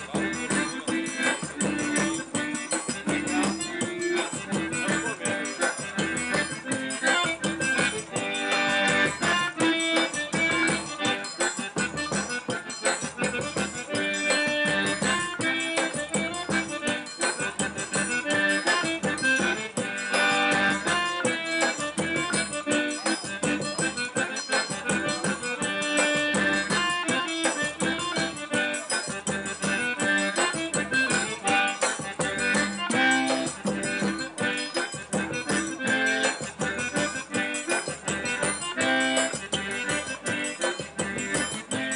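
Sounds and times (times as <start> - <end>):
button accordion playing: 0.0 - 41.9.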